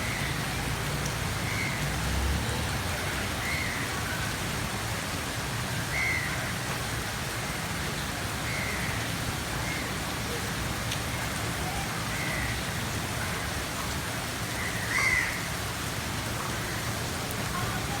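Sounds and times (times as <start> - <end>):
rain on hard surfaces: 0.0 - 18.0.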